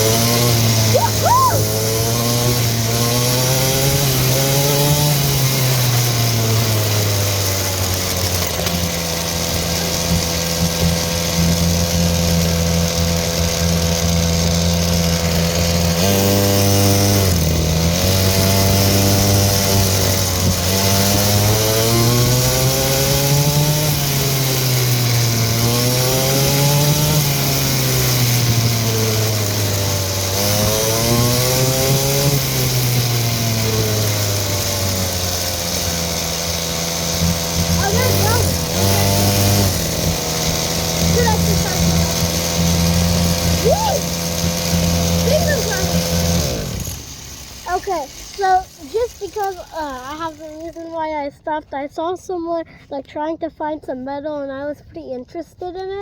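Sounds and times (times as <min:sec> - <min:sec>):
dirt bike engine running: 0:00.0 - 0:51.6.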